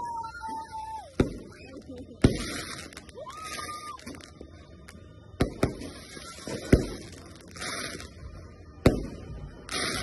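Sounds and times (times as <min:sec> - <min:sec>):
fireworks bangs: 0:00.2 - 0:10.0.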